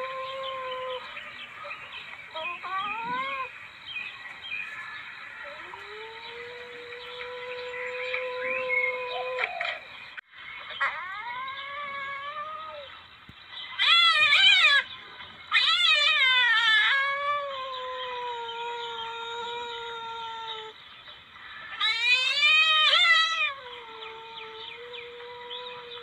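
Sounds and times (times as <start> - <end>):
civet yowling calls: 0.0 - 3.6, 4.6 - 9.9, 10.6 - 13.0, 13.7 - 26.0.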